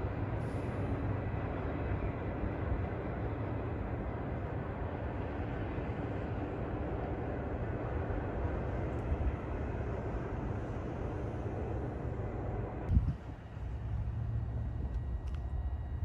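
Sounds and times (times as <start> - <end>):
distant train rumble: 0.0 - 16.0
faint steady hum: 0.0 - 16.0.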